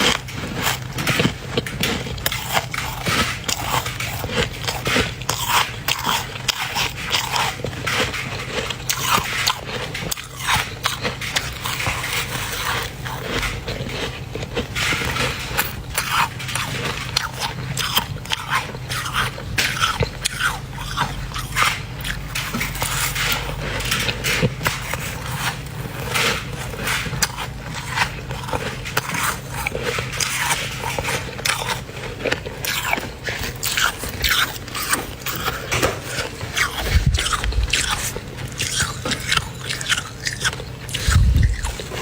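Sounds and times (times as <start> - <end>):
crunchy frost being chewed: 0.0 - 42.0.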